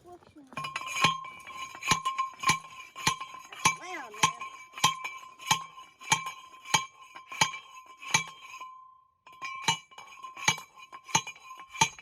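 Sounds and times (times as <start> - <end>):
ringing metal clangs of post driver: 0.5 - 8.7, 9.3 - 12.0.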